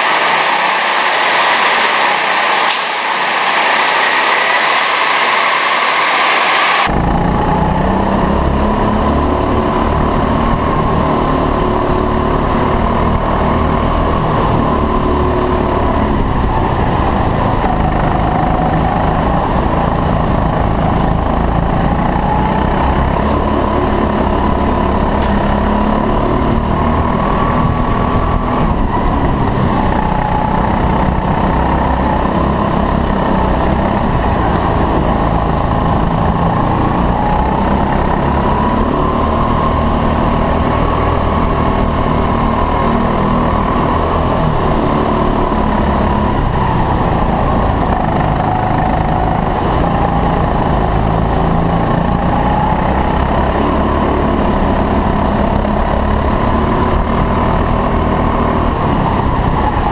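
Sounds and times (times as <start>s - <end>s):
small kart engine running: 0.0s - 5.3s, 5.9s - 59.9s.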